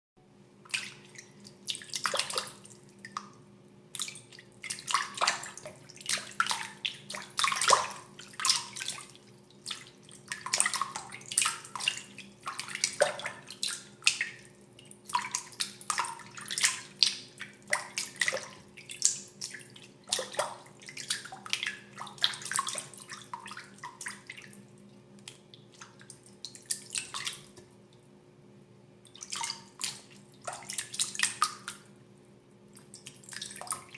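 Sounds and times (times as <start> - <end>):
faint steady hum: 0.2 - 33.9
water splashing and dripping: 0.7 - 14.4, 15.0 - 24.6, 25.2 - 27.7, 29.1 - 31.9, 32.8 - 33.9.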